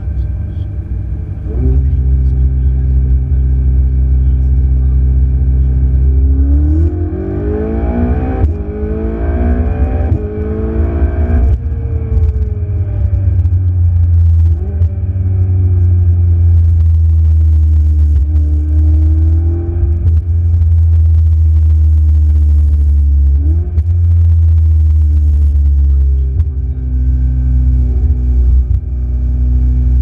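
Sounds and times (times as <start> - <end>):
sports car engine accelerating: 0.0 - 30.0.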